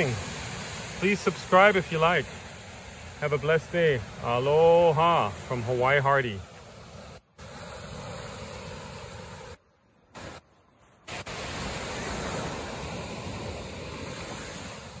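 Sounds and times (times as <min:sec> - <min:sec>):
waves breaking on sandy beach: 0:00.0 - 0:15.0.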